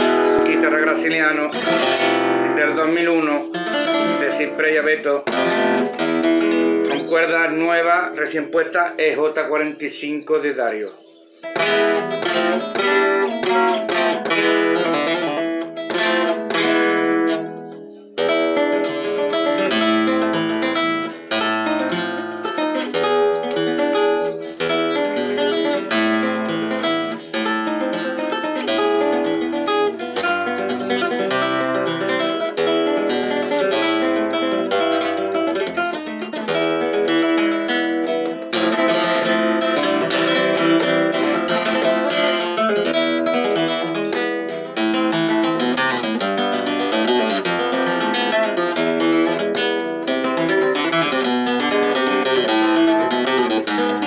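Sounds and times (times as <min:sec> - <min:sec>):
flamenco guitar strummed and plucked: 0:00.0 - 0:54.0.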